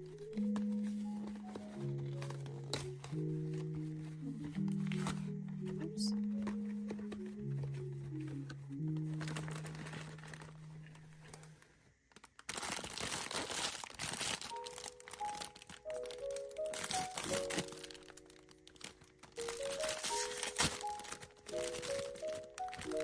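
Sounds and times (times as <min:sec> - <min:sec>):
soft background music: 0:00.0 - 0:11.6, 0:12.6 - 0:23.0
plastic packaging crinkling: 0:00.0 - 0:23.0.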